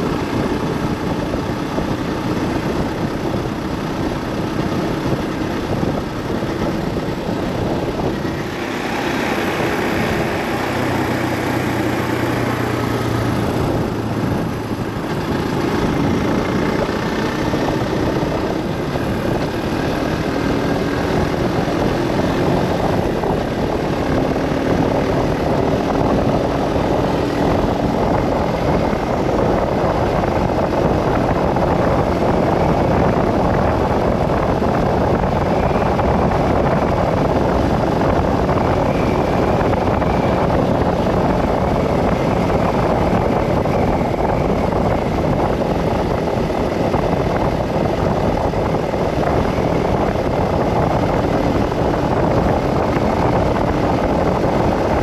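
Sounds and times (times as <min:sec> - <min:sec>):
engine tone: 0:00.0 - 0:55.0
road noise: 0:00.0 - 0:55.0.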